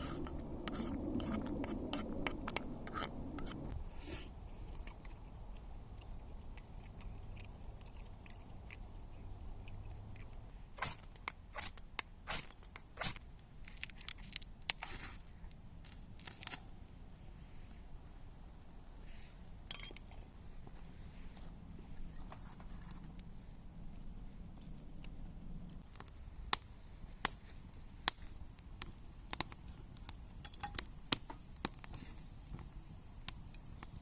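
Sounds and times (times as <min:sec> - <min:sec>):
faint low hum: 0:00.0 - 0:10.8, 0:13.2 - 0:31.1.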